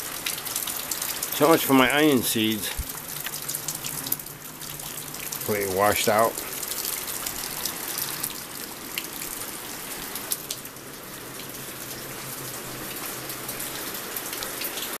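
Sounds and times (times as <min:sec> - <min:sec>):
floodwater rushing: 0:00.0 - 0:15.0
rain: 0:00.0 - 0:15.0.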